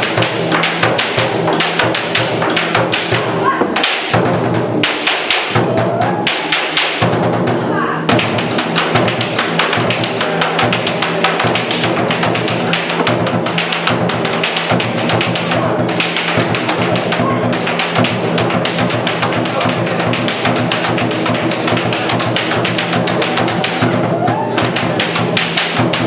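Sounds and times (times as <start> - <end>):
music: 0.0 - 26.0
rhythmic thumps of swung cords: 0.0 - 26.0.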